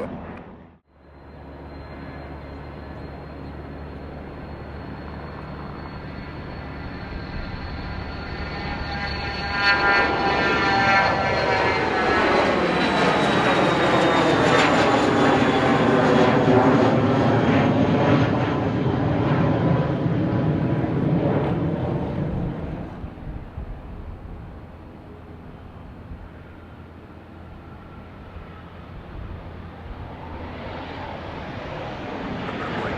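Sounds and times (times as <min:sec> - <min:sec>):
aircraft engine passing by: 0:00.0 - 0:32.9.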